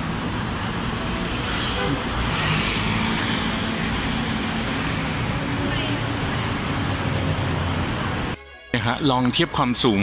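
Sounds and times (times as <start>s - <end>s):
cars and buses passing: 0.0s - 8.4s.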